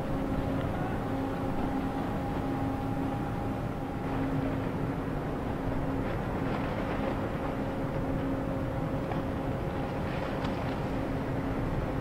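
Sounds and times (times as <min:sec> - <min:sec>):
ship engines droning: 0:00.0 - 0:12.0
steady low hum: 0:00.0 - 0:12.0.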